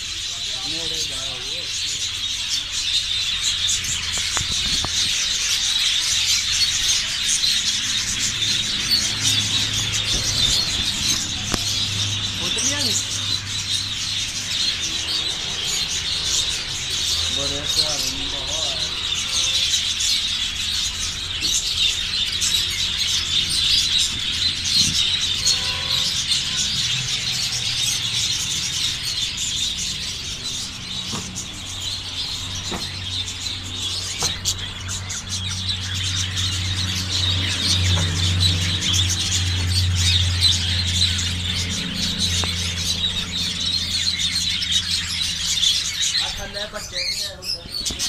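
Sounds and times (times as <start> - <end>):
flock of budgerigars chirping: 0.0 - 48.0.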